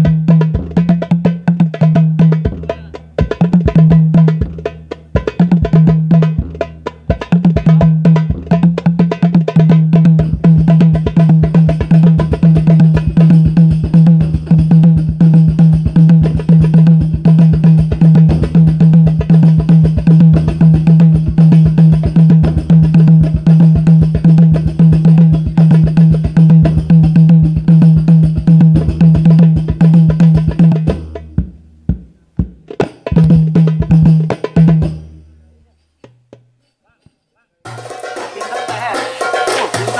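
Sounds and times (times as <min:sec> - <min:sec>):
frame drums and bass drum: 0:00.0 - 0:39.9.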